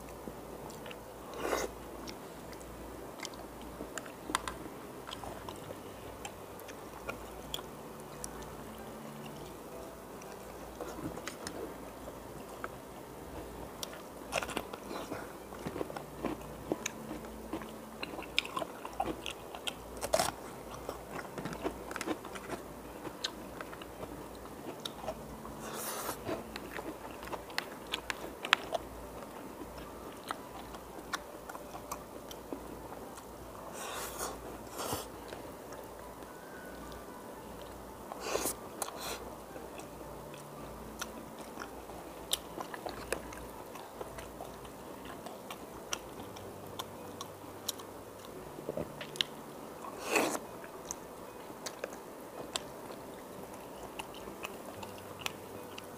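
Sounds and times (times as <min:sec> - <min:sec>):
person chewing food: 0:00.0 - 0:12.8, 0:13.4 - 0:36.3, 0:36.9 - 0:55.9.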